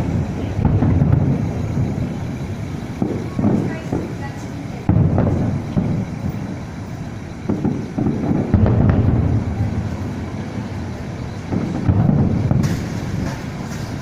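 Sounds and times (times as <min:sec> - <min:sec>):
distant fireworks booming: 0:00.0 - 0:14.0.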